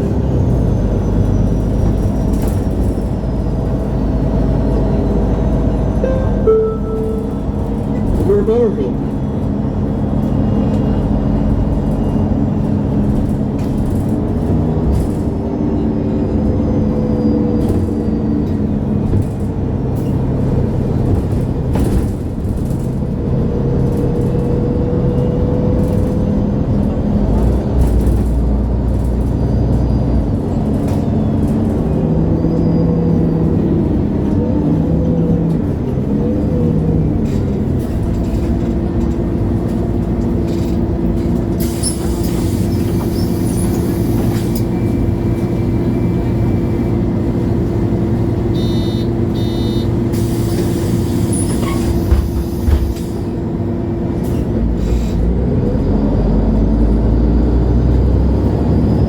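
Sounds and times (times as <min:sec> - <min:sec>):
bus engine running: 0:00.0 - 0:59.0.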